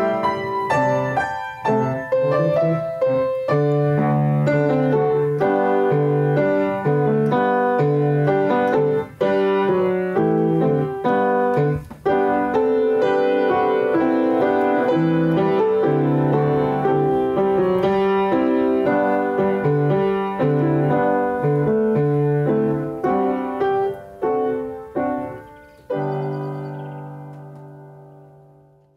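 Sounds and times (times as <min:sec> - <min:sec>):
piano music: 0:00.0 - 0:28.9.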